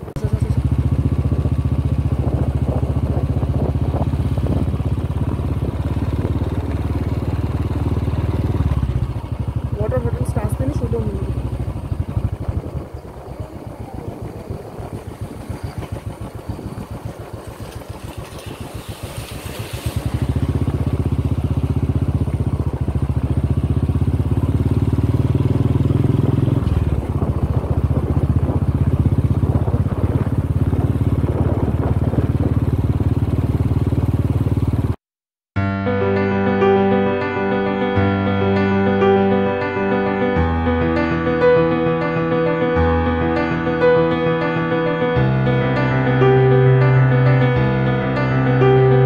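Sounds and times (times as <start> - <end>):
motorcycle engine running: 0.0 - 35.0, 35.6 - 49.0.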